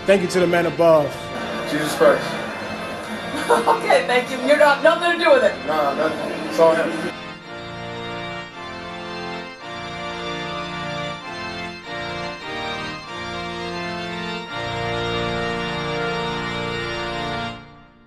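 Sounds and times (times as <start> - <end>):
slow held chords music: 1.1 - 17.8.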